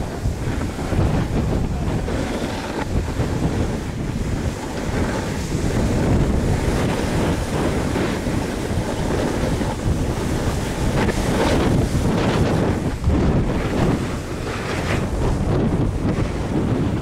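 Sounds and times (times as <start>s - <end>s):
snowboard sliding on snow: 0.0s - 17.0s
wind buffeting microphone: 0.0s - 17.0s.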